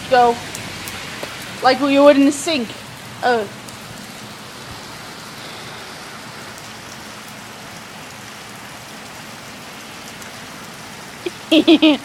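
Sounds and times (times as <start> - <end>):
heavy rain pouring: 0.0 - 12.0
raindrop ticks: 0.0 - 12.0.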